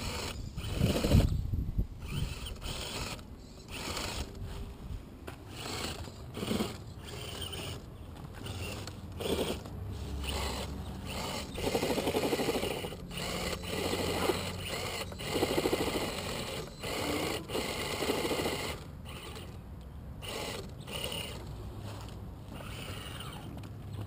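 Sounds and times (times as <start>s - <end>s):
electric motor whirring: 0.0s - 1.4s, 2.0s - 4.7s, 5.5s - 19.6s, 20.2s - 23.6s.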